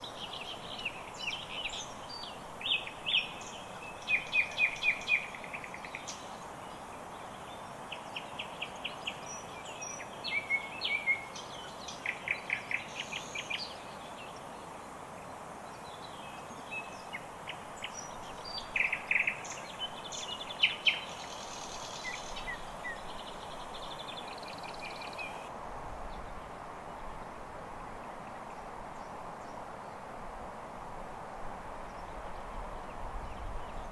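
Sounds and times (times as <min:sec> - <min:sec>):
songbirds chirping: 0:00.0 - 0:33.9
steady background hiss: 0:00.0 - 0:33.9.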